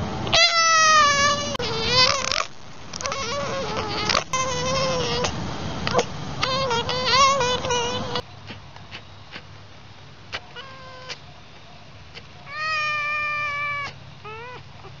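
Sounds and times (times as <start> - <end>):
fox calling: 0.3 - 9.5, 10.3 - 11.2, 12.1 - 15.0.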